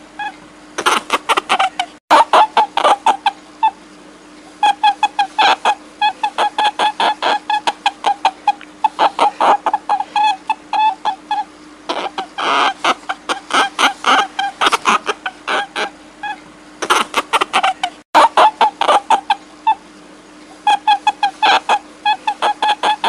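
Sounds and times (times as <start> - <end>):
animal giving short pitched calls: 0.2 - 3.8, 4.5 - 19.8, 20.5 - 23.0.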